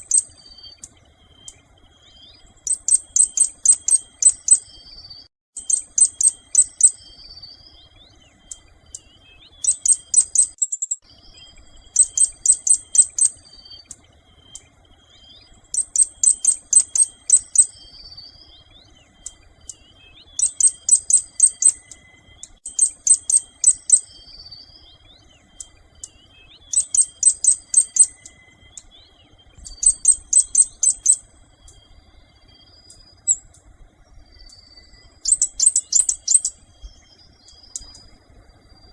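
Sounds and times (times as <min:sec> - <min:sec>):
birds twittering: 0:00.0 - 0:38.9
songbird calling sharp notes: 0:00.0 - 0:38.9.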